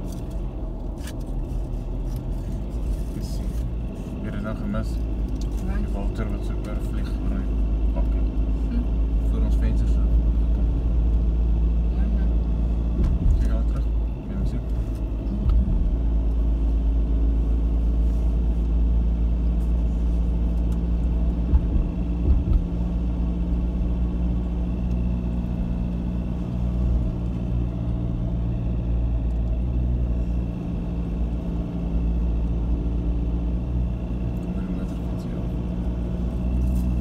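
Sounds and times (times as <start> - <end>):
car engine and tyres droning: 0.0 - 37.0.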